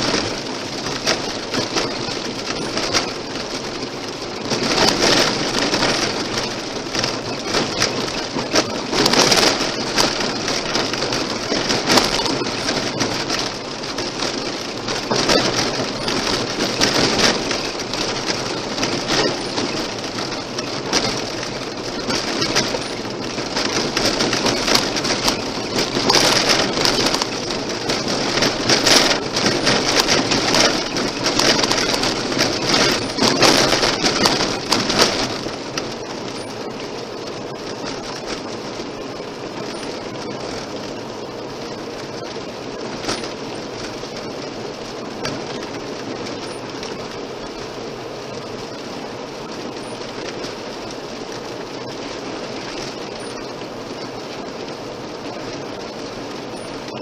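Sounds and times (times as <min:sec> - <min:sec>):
tyres rolling on gravel: 0:00.0 - 0:57.0.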